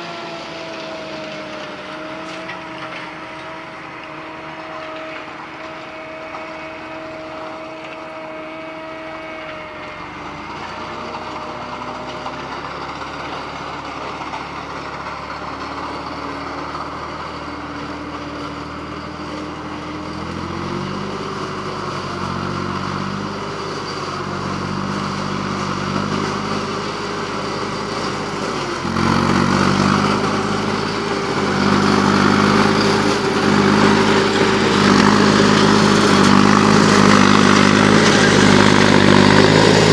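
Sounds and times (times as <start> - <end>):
tractor and forage harvester drone: 0.0 - 39.9.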